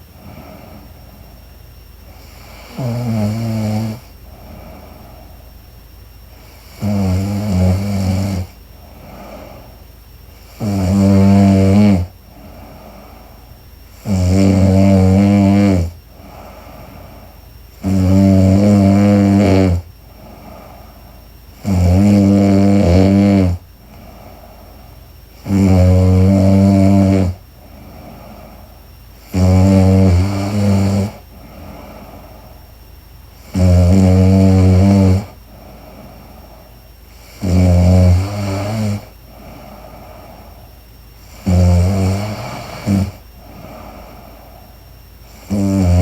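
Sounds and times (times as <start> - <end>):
woman snoring: 0.0 - 1.2, 2.1 - 5.4, 6.3 - 9.8, 10.4 - 32.6, 33.4 - 46.0.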